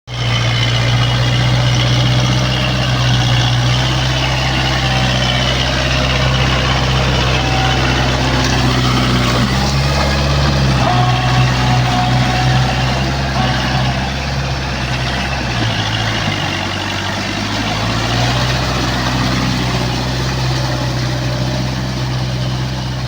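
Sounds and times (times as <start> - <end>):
tractor diesel engine running: 0.1 - 23.0.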